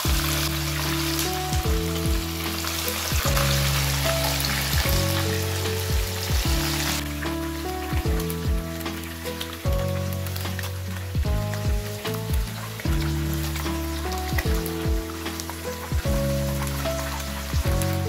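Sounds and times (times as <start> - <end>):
background music low notes: 0.0 - 18.0
chicken sizzling in oil: 0.0 - 18.0.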